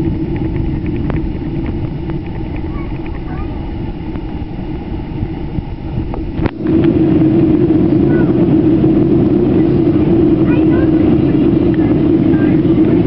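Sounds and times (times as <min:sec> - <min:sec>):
jet engine cabin drone: 0:00.0 - 0:13.0.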